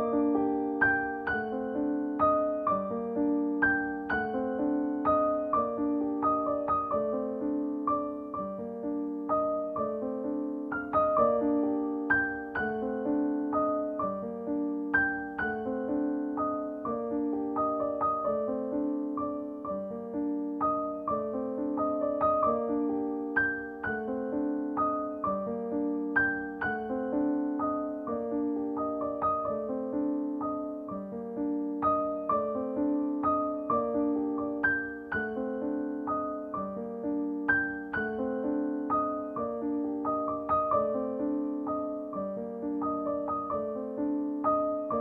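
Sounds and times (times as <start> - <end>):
gentle piano music: 0.0 - 45.0.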